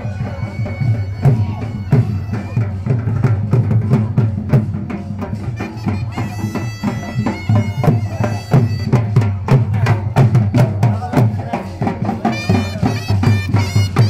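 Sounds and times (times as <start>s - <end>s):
fast steady drum beat: 0.0s - 14.0s.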